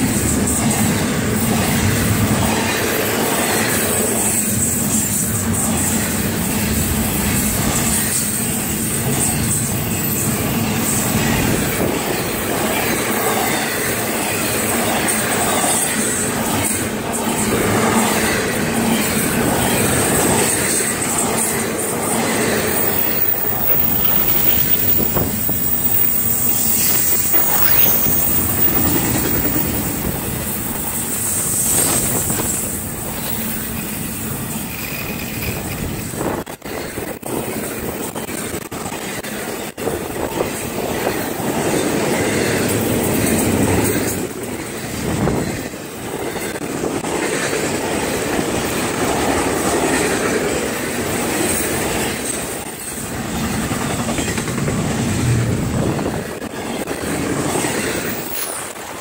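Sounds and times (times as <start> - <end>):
train wheels rolling on rails: 0.0 - 59.0.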